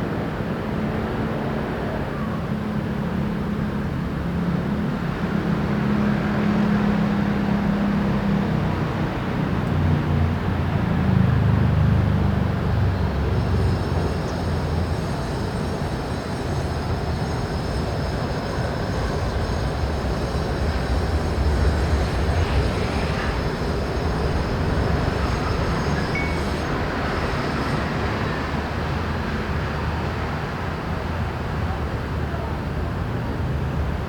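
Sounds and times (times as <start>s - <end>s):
low rumble of city traffic: 0.0s - 34.0s.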